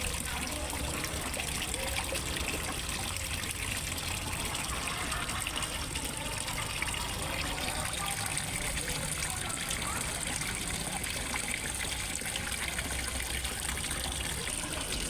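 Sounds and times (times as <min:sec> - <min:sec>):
water trickling into pond: 0:00.0 - 0:15.0.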